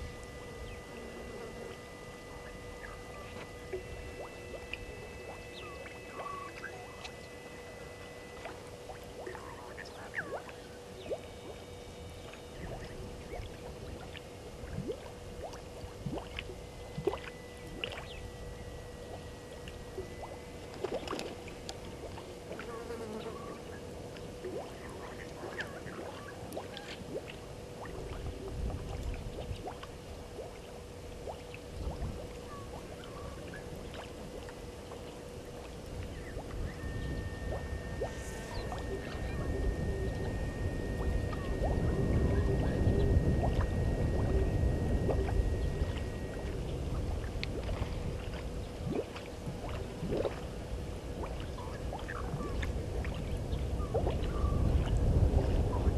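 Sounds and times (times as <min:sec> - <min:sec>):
low rumbling: 0:00.0 - 0:22.6, 0:27.1 - 0:55.9
faint high steady tone: 0:00.0 - 0:29.2, 0:30.0 - 0:48.9
insect drone: 0:00.0 - 0:55.9.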